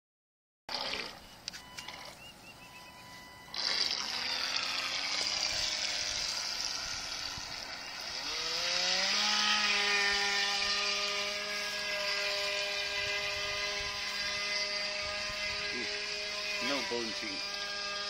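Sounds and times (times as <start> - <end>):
electric motor whining: 0.7 - 18.0.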